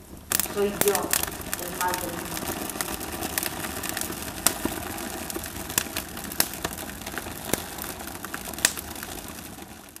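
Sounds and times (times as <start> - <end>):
fire crackling and popping: 0.0 - 10.0.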